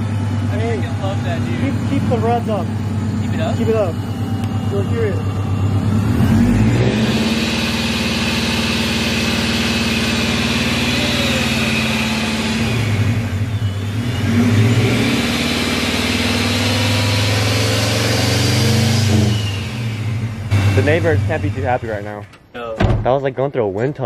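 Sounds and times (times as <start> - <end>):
car exhaust at high revs: 0.0 - 22.2
supercharger whine: 0.0 - 22.4.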